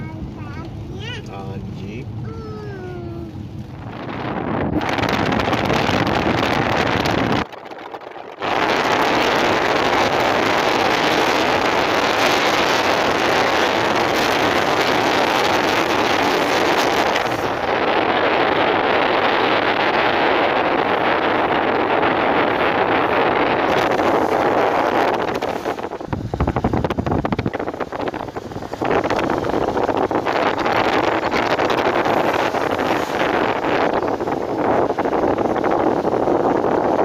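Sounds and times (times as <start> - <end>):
car road noise on wet road: 0.0 - 37.0
wind rush: 0.0 - 37.0.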